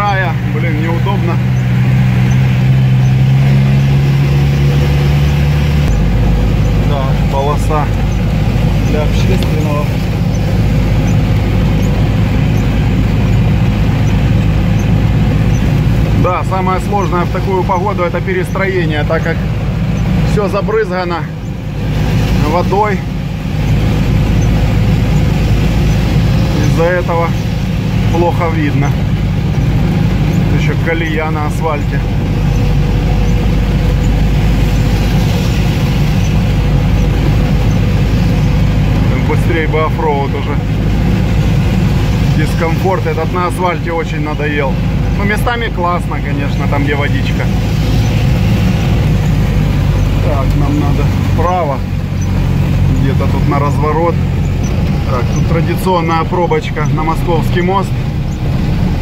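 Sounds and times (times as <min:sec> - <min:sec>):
rain: 0:00.0 - 0:59.0
tyre noise on wet asphalt: 0:00.0 - 0:59.0
vehicle engine drone: 0:00.0 - 0:59.0.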